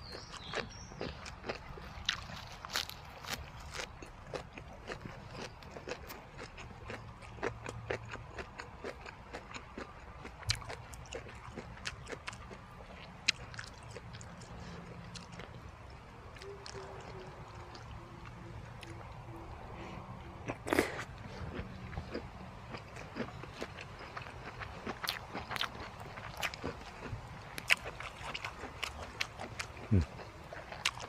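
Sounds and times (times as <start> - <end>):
crunchy chewing: 0.0 - 31.0.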